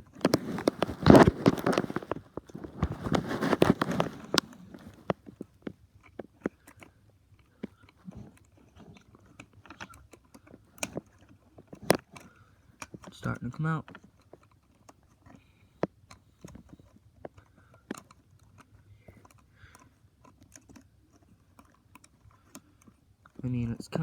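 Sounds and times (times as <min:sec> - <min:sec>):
plastic crunching and crackling: 0:00.0 - 0:24.0.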